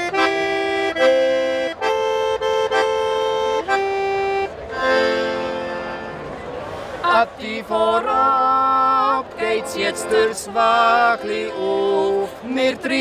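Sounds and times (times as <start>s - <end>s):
button accordion chords: 0.0s - 13.0s.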